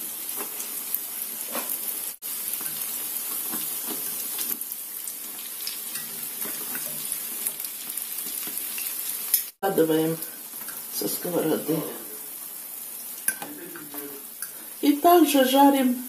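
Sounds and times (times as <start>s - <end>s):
dough frying in oil: 0.0s - 16.0s.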